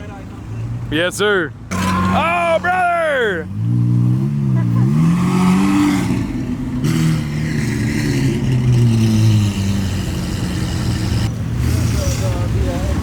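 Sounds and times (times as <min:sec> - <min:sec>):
car engine accelerating: 0:01.7 - 0:13.0.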